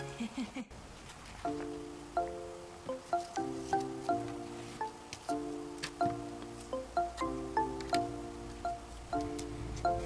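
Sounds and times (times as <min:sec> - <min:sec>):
plucked melody over chords: 0:01.5 - 0:10.0.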